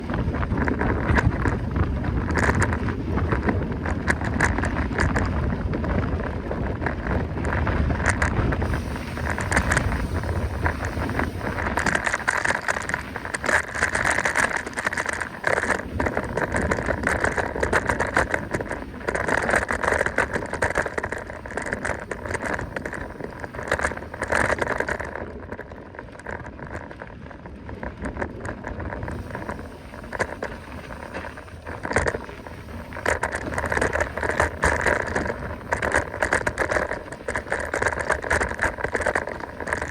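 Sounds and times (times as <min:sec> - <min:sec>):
bike rattling on rough trail: 0:00.0 - 0:39.9
wind buffeting microphone: 0:00.0 - 0:39.9.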